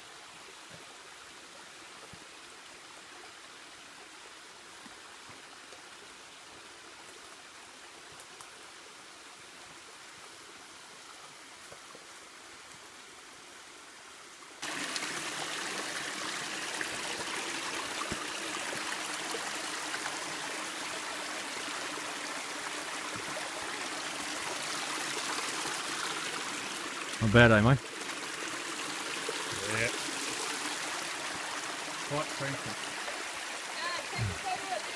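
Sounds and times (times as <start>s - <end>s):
creek water running over rocks: 0.0s - 34.9s.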